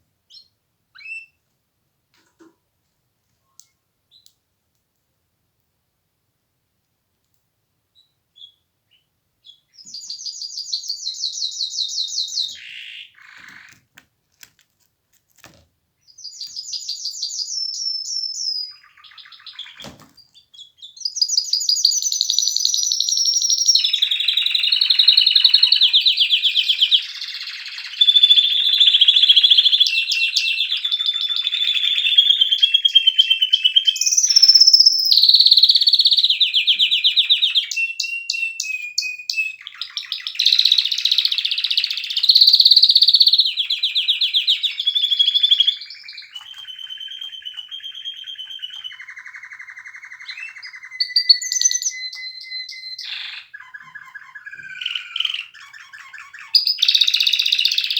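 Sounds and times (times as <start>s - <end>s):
canary singing trills: 0.3s - 1.4s, 8.0s - 13.8s, 16.0s - 57.9s.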